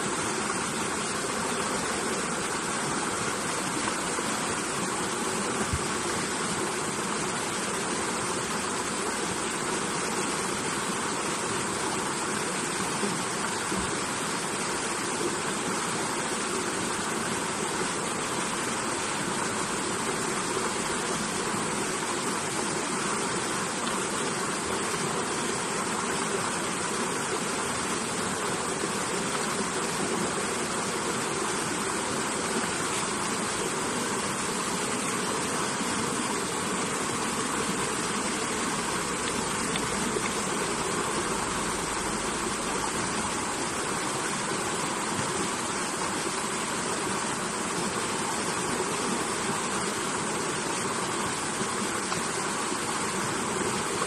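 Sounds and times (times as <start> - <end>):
small cascade of rapids: 0.0 - 54.0
stream rushing over rocks: 0.0 - 54.0.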